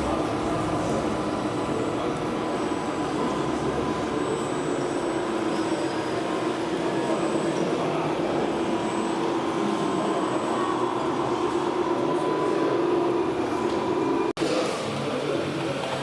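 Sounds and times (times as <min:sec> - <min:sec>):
faint constant hums: 0:00.0 - 0:14.3
busy exhibition hall ambience: 0:00.0 - 0:16.0.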